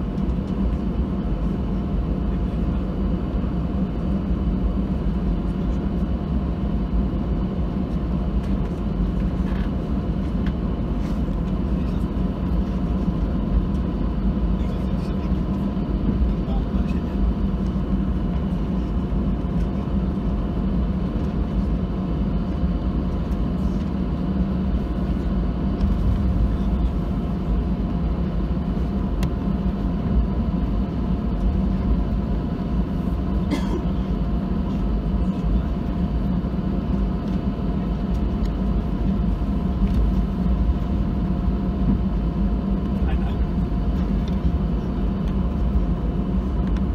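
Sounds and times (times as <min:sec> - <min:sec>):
jet engines low rumble: 0:00.0 - 0:46.9.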